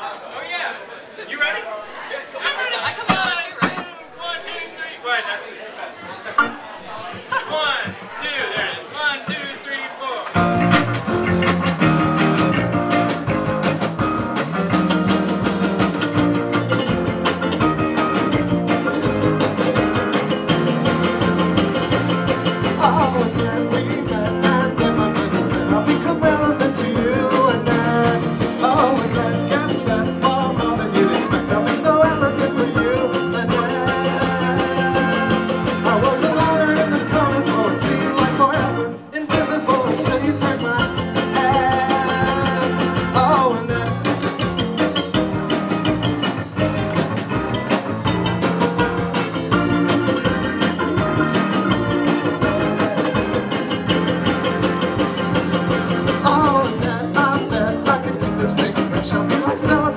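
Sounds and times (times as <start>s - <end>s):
indie pop band playing: 2.5s - 4.5s, 6.3s - 9.6s, 10.3s - 59.9s
steady drum beat: 2.9s - 4.7s, 10.4s - 59.9s.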